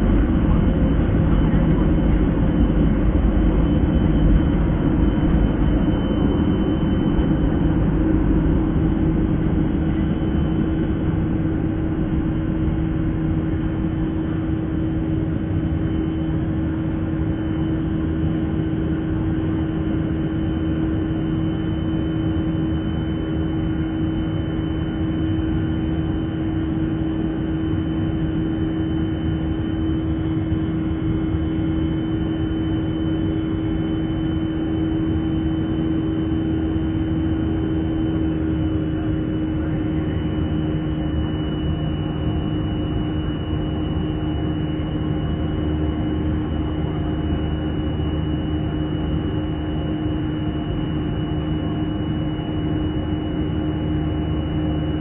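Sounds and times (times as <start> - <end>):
jet engines at takeoff thrust: 0.0 - 55.0.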